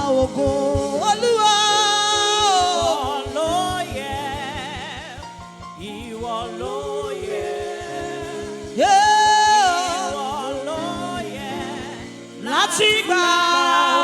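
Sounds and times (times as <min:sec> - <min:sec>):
quick steady low beat: 0:00.0 - 0:13.1
held low backing notes: 0:00.0 - 0:13.9
gospel praise singing: 0:00.0 - 0:14.0.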